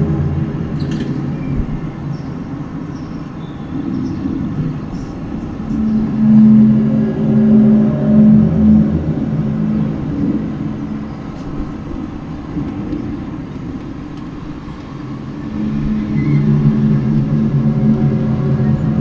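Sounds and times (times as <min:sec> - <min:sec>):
low droning hum outdoors: 0:00.0 - 0:19.0.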